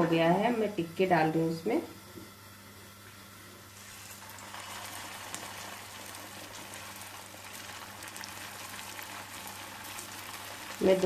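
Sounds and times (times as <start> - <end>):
patties sizzling in hot oil: 0.0 - 11.0.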